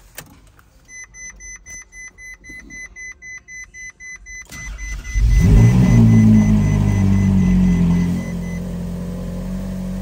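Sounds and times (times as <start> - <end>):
dashboard warning chime beeping: 0.8 - 9.0.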